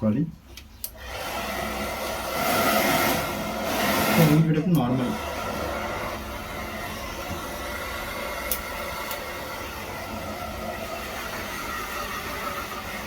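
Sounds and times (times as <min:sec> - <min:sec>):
blow dryer running: 0:00.9 - 0:13.0.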